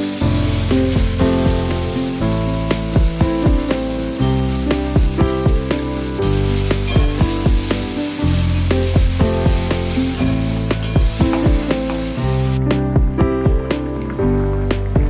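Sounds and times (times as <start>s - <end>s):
fish sizzling in a wok: 0.0s - 12.8s
background music with beat and bass: 0.0s - 15.0s.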